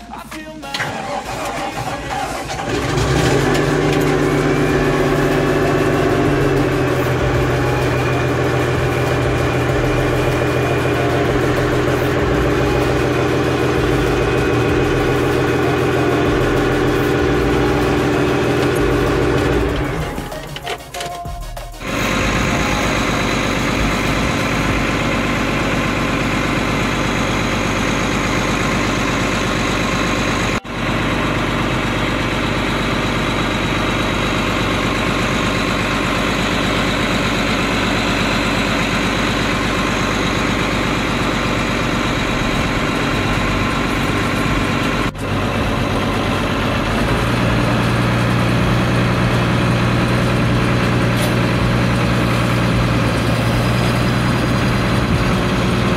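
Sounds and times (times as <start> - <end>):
diesel engine idling: 0.0 - 55.9
deep steady hum: 2.6 - 20.7, 21.3 - 55.9.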